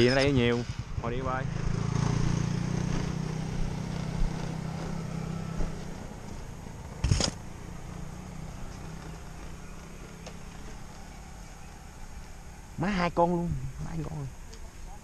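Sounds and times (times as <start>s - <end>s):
small motorbike engine running: 0.0s - 12.6s.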